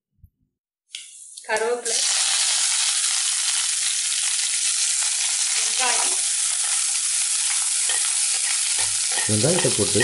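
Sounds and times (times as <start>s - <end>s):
leaves sizzling in hot oil: 1.0s - 10.0s.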